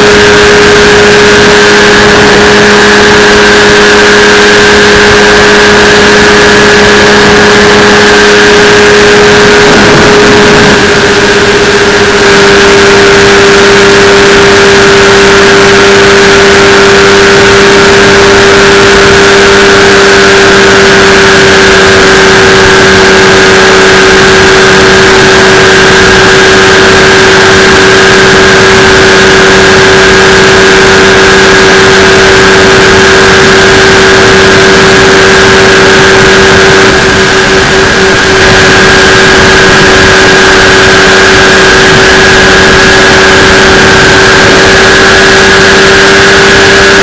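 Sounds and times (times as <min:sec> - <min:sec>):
engine and propeller drone: 0:00.0 - 0:47.0.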